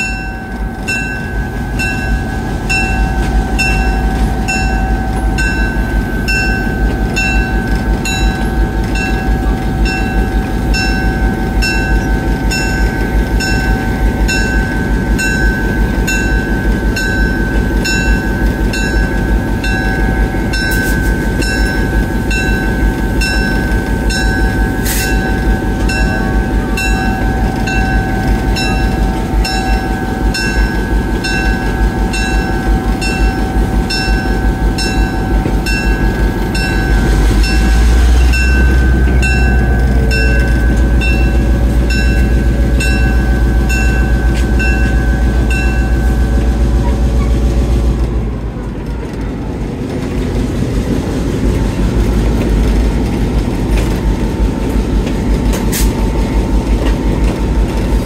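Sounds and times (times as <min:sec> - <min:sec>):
diesel locomotive engine rumble: 0:00.0 - 0:58.0
steady whine: 0:00.0 - 0:58.0.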